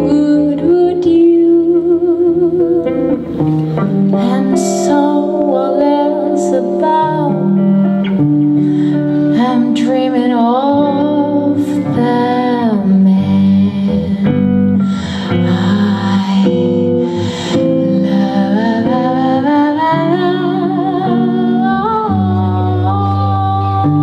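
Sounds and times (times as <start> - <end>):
electric guitar chords: 0.0 - 24.0
woman singing into a microphone: 0.0 - 24.0.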